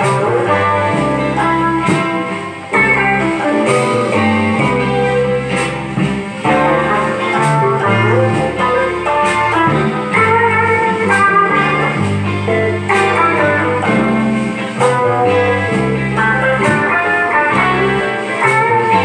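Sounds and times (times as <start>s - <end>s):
electric guitar lead lines: 0.0s - 19.0s
low bass notes: 0.0s - 19.0s.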